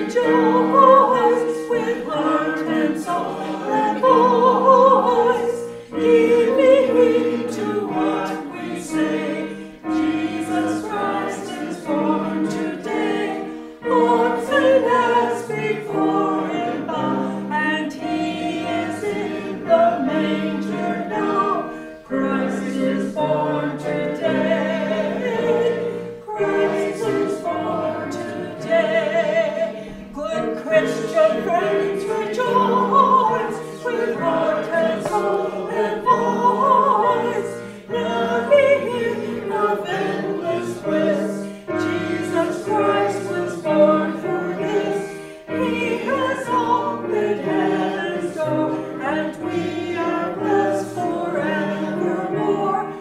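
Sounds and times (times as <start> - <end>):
congregation singing a hymn: 0.0 - 53.0
keyboard accompaniment: 0.0 - 53.0.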